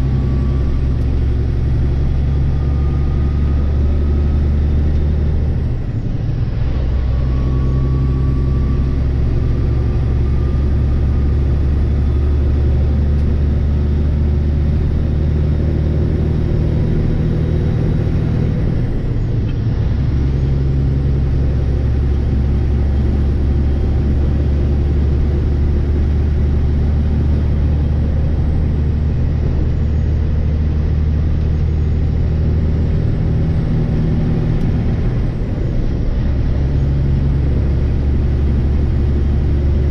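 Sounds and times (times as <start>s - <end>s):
diesel truck engine droning: 0.0s - 39.9s
road noise: 0.0s - 39.9s.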